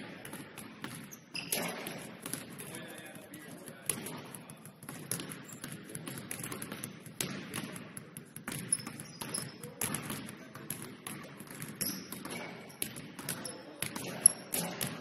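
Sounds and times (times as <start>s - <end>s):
basketballs bouncing on wooden floor: 0.0s - 15.0s.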